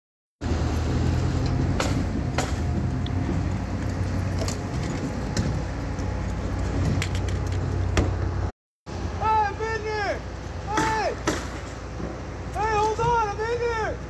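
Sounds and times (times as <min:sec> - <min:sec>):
construction machinery engine drone: 0:00.4 - 0:14.0.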